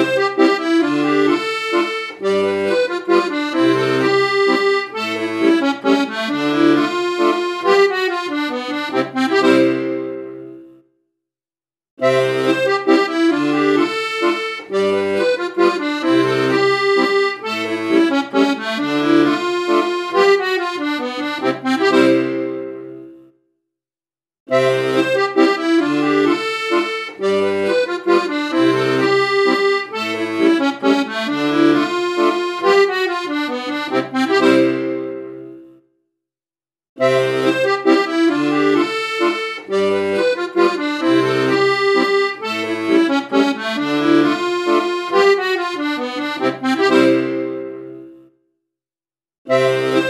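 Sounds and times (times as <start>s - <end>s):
instrumental music with steady beat: 0.0s - 11.0s, 12.0s - 23.4s, 24.5s - 35.9s, 37.0s - 48.4s, 49.5s - 50.0s.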